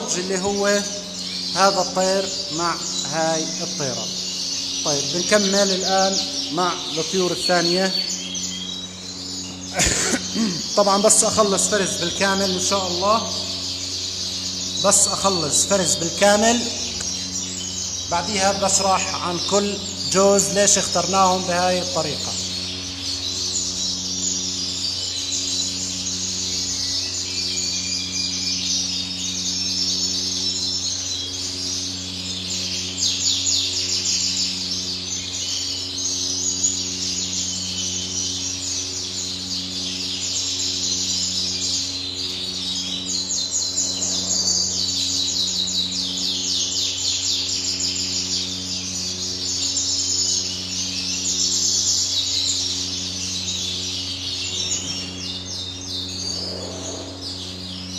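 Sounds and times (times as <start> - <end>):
canaries chirping and trilling: 0.0 - 57.9
low electrical hum: 0.0 - 57.9.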